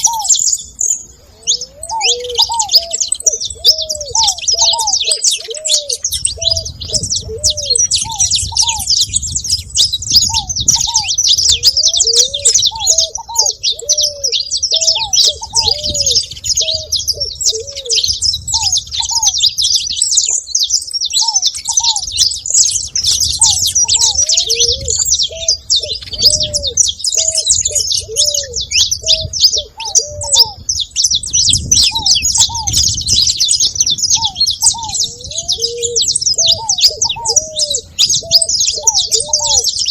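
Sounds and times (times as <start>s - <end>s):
doves cooing: 0.0s - 39.9s
finches chirping: 0.0s - 39.9s.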